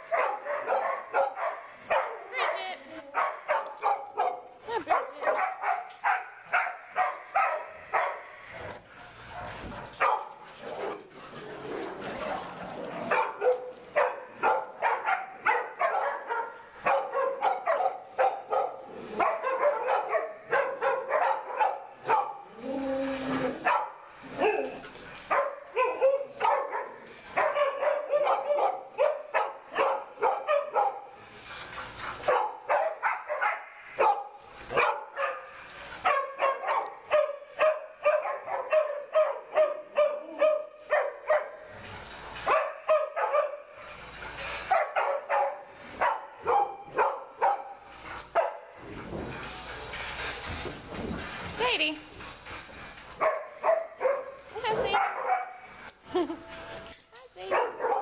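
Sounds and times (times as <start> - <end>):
dogs barking and yipping: 0.0 - 31.2, 31.8 - 56.0, 57.4 - 58.0.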